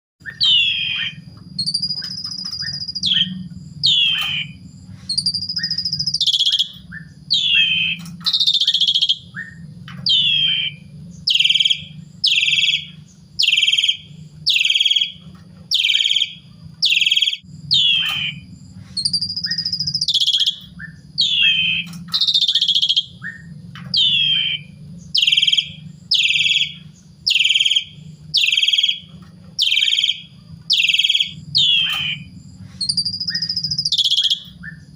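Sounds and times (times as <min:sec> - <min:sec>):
starling singing sharp calls: 0:00.2 - 0:34.9
steady low hum: 0:00.2 - 0:34.9
whistles dropping in pitch: 0:00.2 - 0:34.9.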